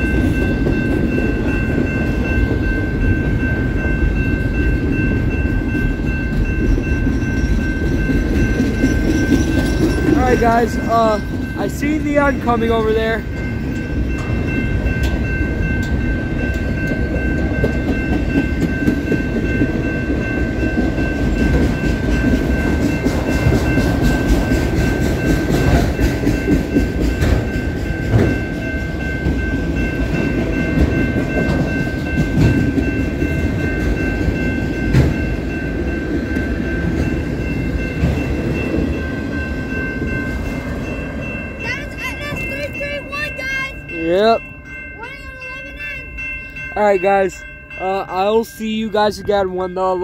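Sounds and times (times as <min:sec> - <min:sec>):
train wheels rumbling on rail: 0:00.0 - 0:47.4
crossing bell ringing: 0:00.0 - 0:50.0.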